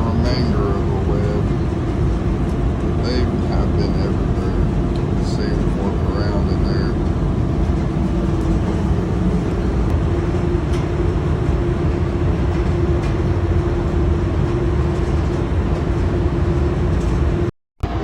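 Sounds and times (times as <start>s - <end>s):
constant hum: 0.0s - 18.0s
machine deep rumble: 0.0s - 18.0s.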